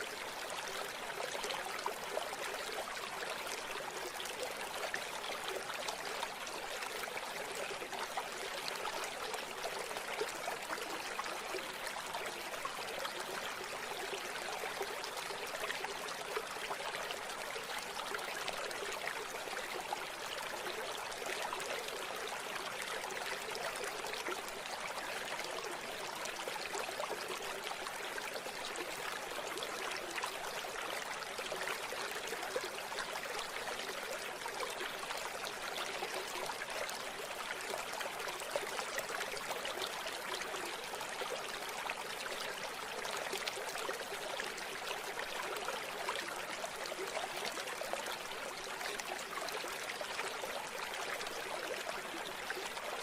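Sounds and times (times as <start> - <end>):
river water babbling over stones: 0.0 - 53.0.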